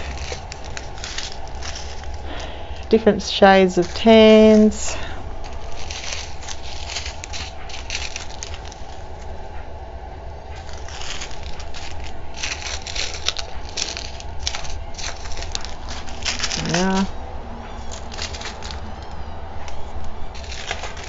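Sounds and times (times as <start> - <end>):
plastic bags crinkling: 0.0 - 9.4, 10.4 - 21.0.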